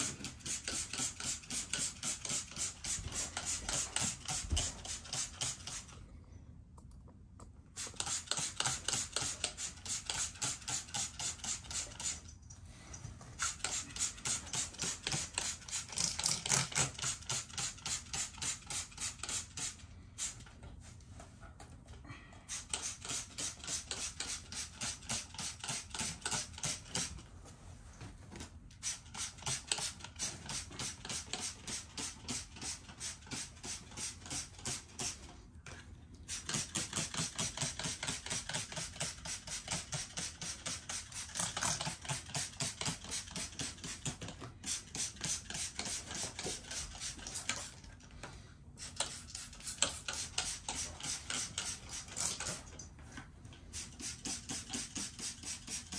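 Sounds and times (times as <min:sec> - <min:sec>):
spray bottle squirting: 0:00.2 - 0:06.0, 0:07.8 - 0:12.3, 0:13.4 - 0:20.4, 0:22.5 - 0:27.1, 0:28.8 - 0:35.2, 0:36.3 - 0:47.8, 0:48.8 - 0:52.8, 0:53.7 - 0:55.9.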